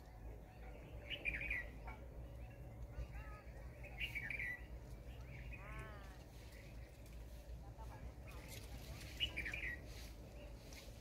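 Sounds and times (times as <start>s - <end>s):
steady low hum: 0.0s - 11.0s
sunbird chirping: 0.0s - 11.0s.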